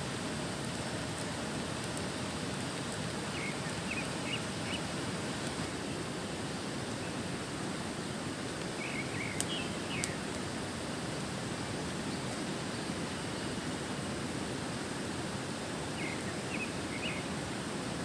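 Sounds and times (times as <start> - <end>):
rushing outdoor ambience: 0.0 - 18.0.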